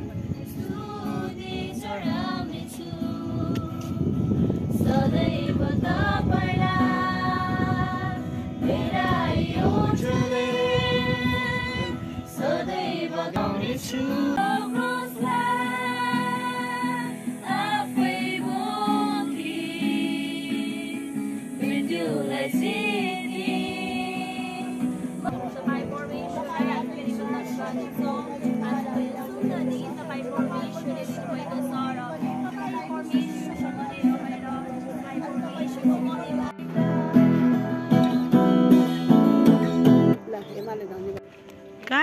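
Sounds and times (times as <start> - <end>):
acoustic guitar: 0.0 - 42.0
women singing together: 0.3 - 39.9.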